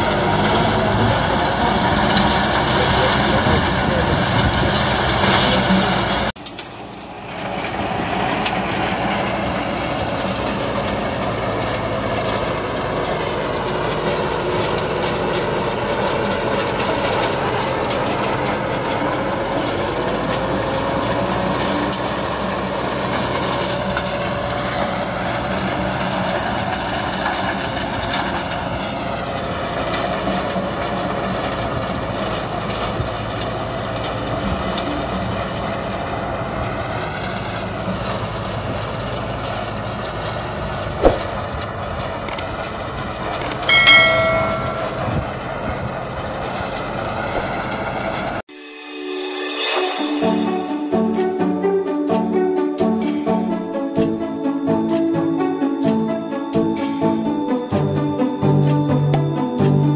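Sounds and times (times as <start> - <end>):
tines churning soil: 0.0 - 48.4
tractor engine under load: 0.0 - 48.5.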